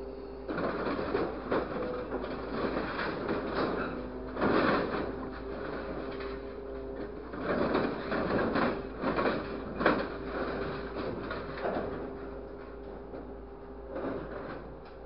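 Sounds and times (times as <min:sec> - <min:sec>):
engine and hydraulic pump hum: 0:00.0 - 0:15.0
scrap metal clattering: 0:00.5 - 0:13.1, 0:13.8 - 0:14.8.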